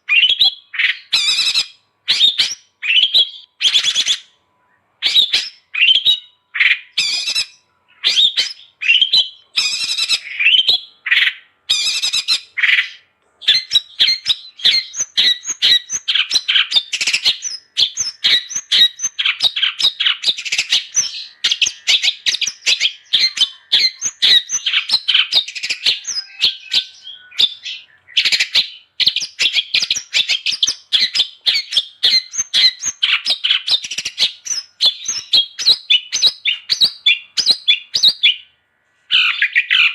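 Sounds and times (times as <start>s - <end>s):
shrike singing: 0.1s - 38.5s.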